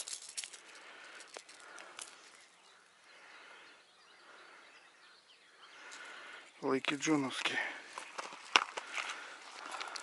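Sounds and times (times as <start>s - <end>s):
faint birdsong: 0.0s - 10.0s.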